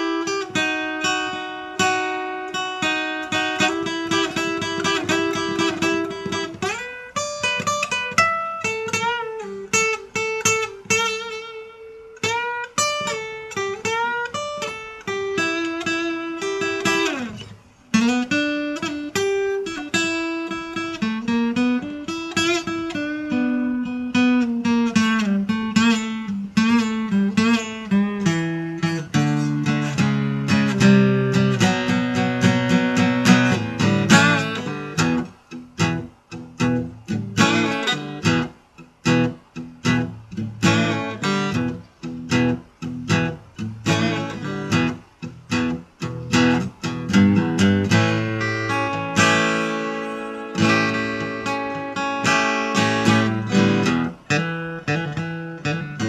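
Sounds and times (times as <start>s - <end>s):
acoustic guitar playing blues: 0.0s - 56.0s.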